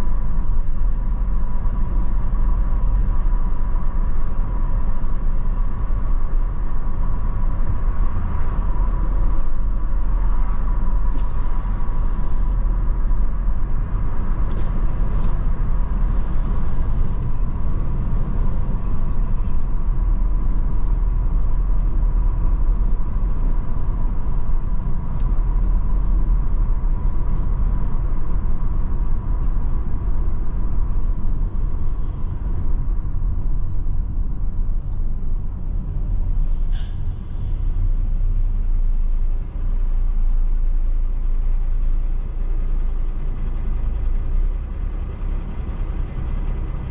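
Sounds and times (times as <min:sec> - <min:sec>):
car driving on paved road: 0:00.0 - 0:46.9.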